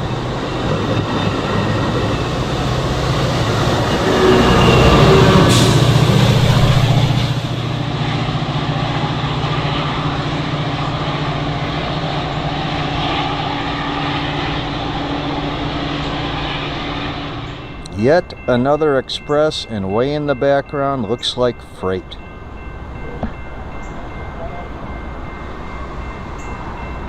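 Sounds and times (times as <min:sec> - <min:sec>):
train rolling rumble: 0:00.0 - 0:27.0.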